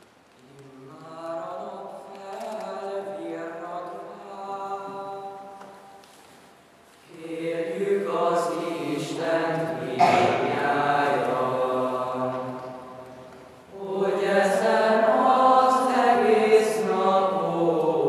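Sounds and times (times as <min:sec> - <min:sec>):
boys' choir singing a hymn: 0:00.4 - 0:06.0, 0:07.0 - 0:18.0.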